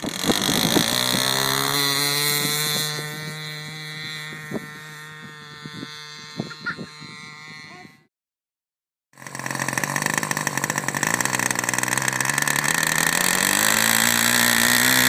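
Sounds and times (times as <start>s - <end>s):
model aircraft engine running: 0.0s - 8.1s, 9.2s - 15.0s.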